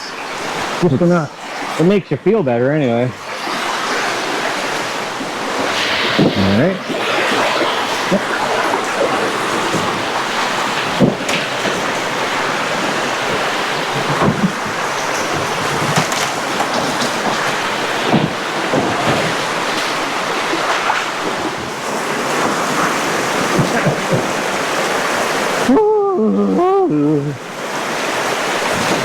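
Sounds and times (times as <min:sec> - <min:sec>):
river water rushing over rocks: 0:00.0 - 0:02.0, 0:03.1 - 0:25.9, 0:26.6 - 0:29.0
water splashes: 0:00.0 - 0:29.0.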